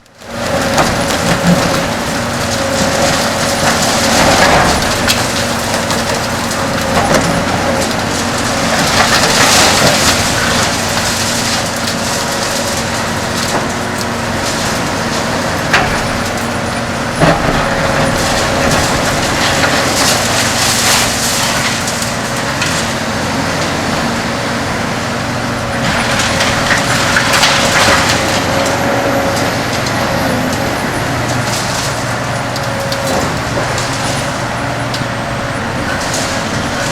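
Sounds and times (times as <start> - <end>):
concrete crunching and cracking: 0.0 - 36.9
excavator diesel engine and hydraulics: 0.0 - 36.9.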